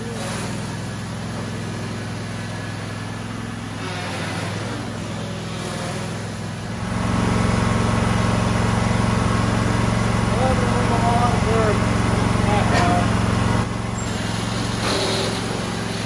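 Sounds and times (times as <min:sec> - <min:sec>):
lawn tractor engine running: 0:00.0 - 0:16.0.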